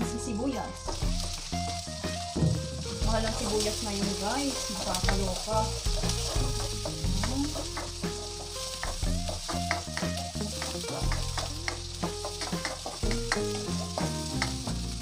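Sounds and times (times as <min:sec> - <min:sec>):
background music: 0:00.0 - 0:15.0
garlic and onion sizzling in oil: 0:00.0 - 0:15.0
spatula scraping a pan: 0:00.8 - 0:14.5.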